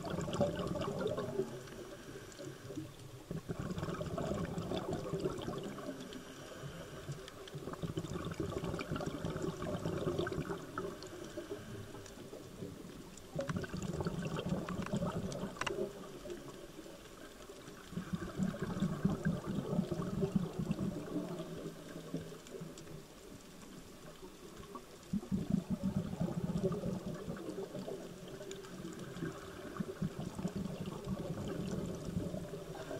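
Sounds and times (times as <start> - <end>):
scuba regulator bubbling exhaust: 0.0 - 23.2, 24.0 - 32.9.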